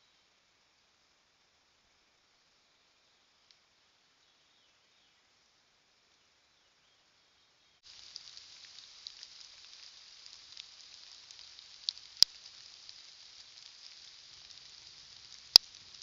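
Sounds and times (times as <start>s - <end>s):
microphone hiss with crackles: 0.0s - 16.0s.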